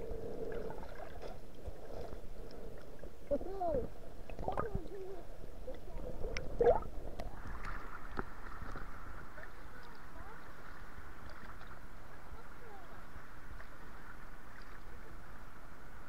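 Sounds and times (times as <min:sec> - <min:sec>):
muffled underwater sounds: 0:00.0 - 0:16.0
shallow water washing: 0:00.0 - 0:16.0.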